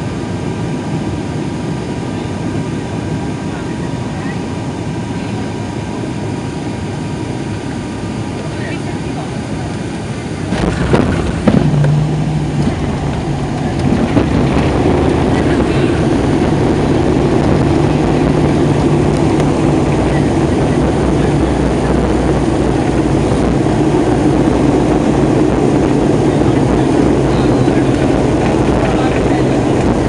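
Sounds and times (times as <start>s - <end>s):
turboprop engine and propeller hum: 0.0s - 30.0s.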